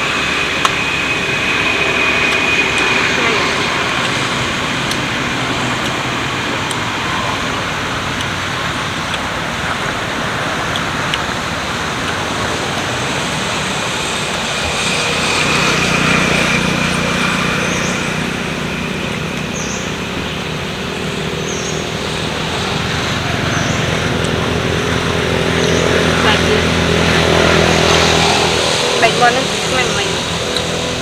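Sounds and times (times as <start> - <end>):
road traffic: 0.0 - 31.0
vehicle engine: 0.0 - 31.0.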